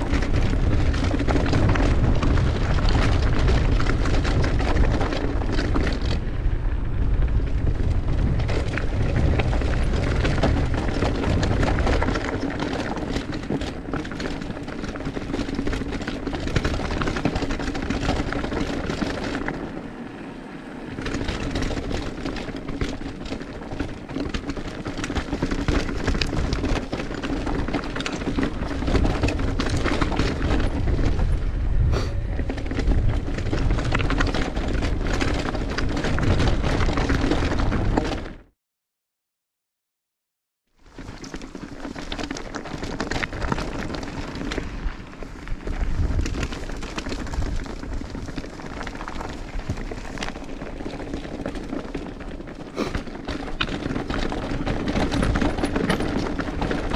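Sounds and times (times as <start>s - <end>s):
bike rattling over bumps: 0.0s - 38.5s, 40.8s - 56.9s
wind rumbling on microphone: 0.0s - 38.5s, 40.8s - 56.9s.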